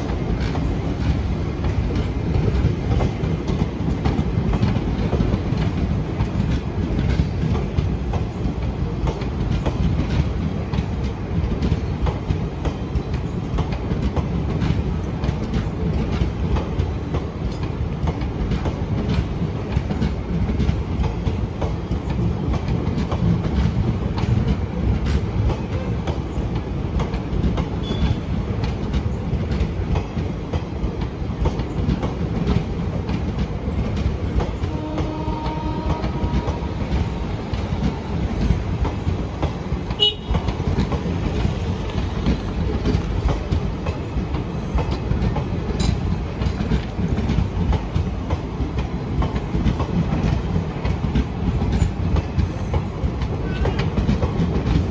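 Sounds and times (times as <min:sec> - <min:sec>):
train coaches rumbling past: 0:00.0 - 0:54.9
wheels clickety-clack over rail joints: 0:00.0 - 0:54.9.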